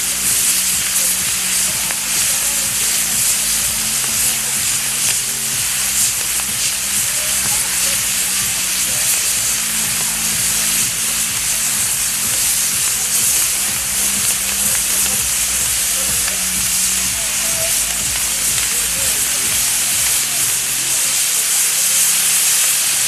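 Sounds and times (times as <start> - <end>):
fireworks fountains hissing: 0.0 - 23.0.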